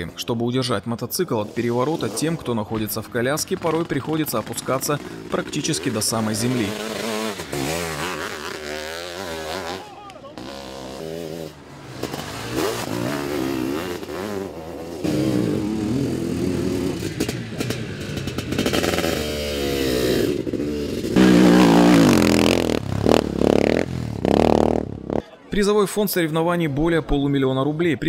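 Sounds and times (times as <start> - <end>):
motorcycle engines revving: 1.2 - 25.3.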